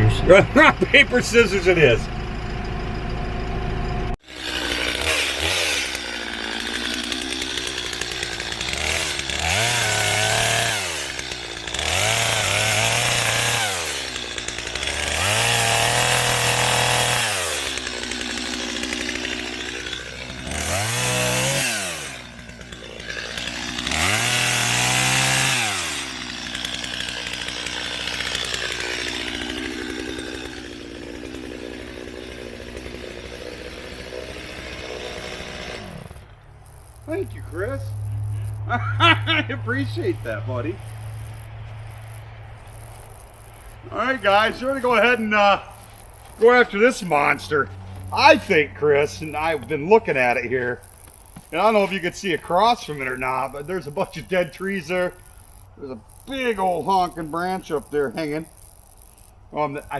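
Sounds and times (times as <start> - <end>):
chainsaw revving cutting wood: 0.0 - 59.9.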